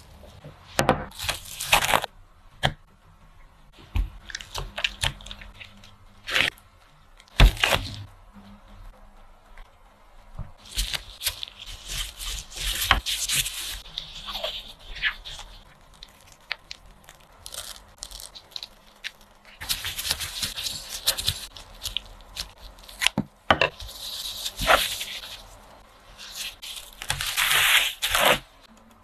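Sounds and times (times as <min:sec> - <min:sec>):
plastic gloves rustling and crinkling: 0:00.0 - 0:02.2, 0:02.9 - 0:29.0.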